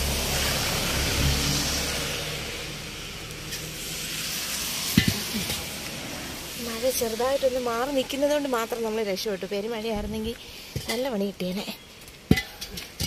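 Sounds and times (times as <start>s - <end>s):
steady noise haze: 0.0s - 13.0s.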